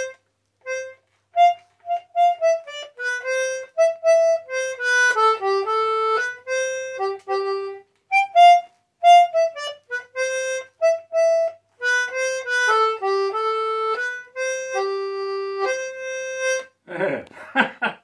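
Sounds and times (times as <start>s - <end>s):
concertina playing single notes: 0.0s - 16.8s.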